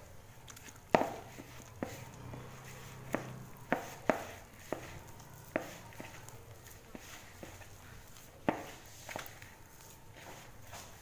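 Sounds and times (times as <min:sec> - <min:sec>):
hand kneading dough in bowl: 0:00.0 - 0:11.0.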